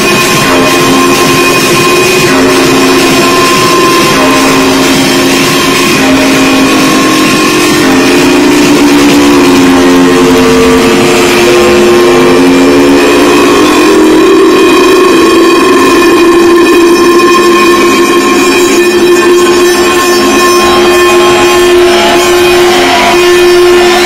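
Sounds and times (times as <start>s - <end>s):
techno synth drones: 0.0s - 24.0s.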